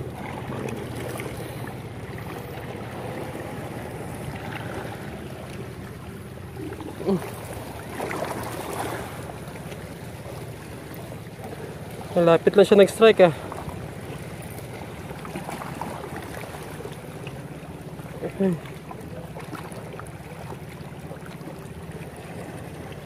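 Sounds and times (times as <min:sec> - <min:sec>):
sea water on rocks: 0:00.0 - 0:23.0
wind: 0:00.0 - 0:23.0.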